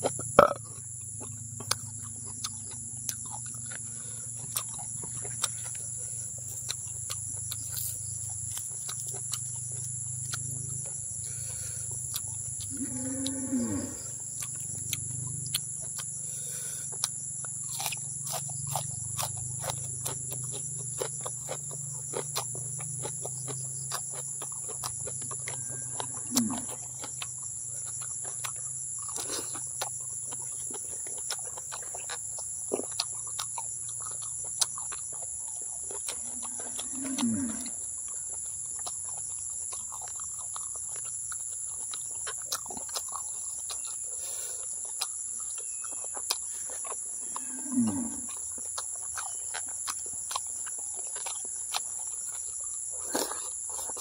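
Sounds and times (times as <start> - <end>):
high-pitched insect drone: 0.0 - 32.0, 32.7 - 54.0
chewing and wet mouth clicks: 0.0 - 54.0.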